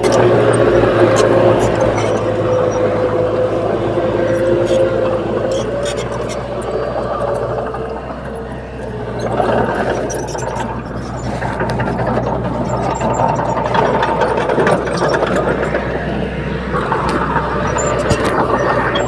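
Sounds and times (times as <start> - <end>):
heavy diesel engine running: 0.0 - 19.0
light clicks and rattles: 0.0 - 19.0.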